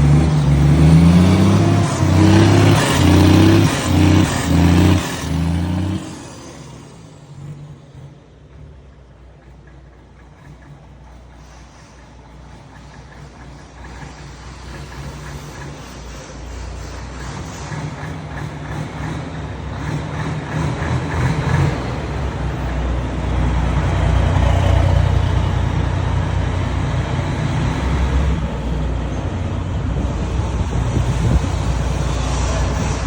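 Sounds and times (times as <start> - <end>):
diesel truck exhaust rumble: 0.0 - 33.0.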